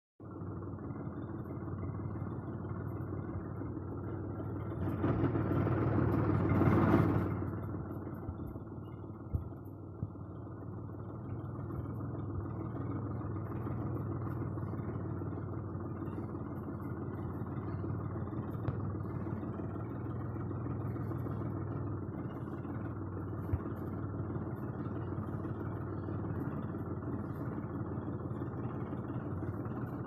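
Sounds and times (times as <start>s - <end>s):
tractor engine running: 0.2s - 30.0s.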